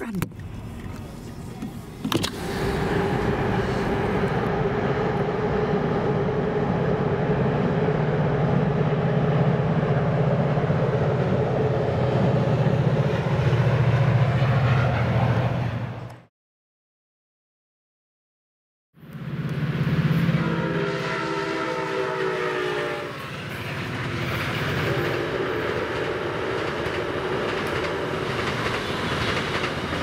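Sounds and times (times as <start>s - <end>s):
train wheels rumbling on rails: 0.0s - 16.2s, 19.2s - 30.0s.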